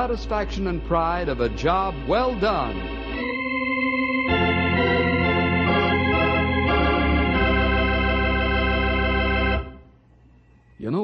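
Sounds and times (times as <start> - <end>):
organ playing held chords: 0.0 - 10.0.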